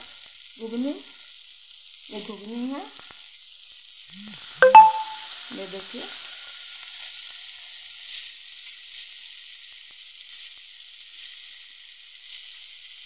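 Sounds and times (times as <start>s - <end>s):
chickpeas sizzling in a frying pan: 0.0s - 4.6s, 5.2s - 13.0s.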